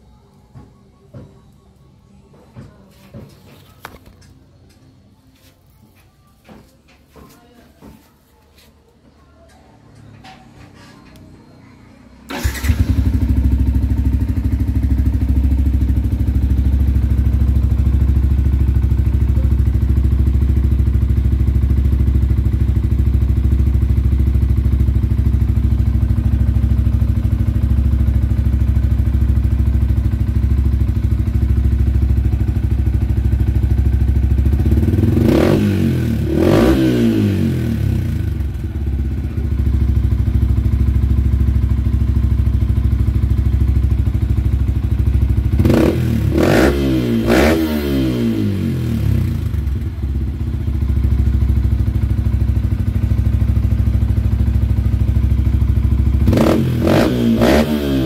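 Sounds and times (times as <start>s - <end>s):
motorcycle engine idling and revving: 5.9s - 58.0s.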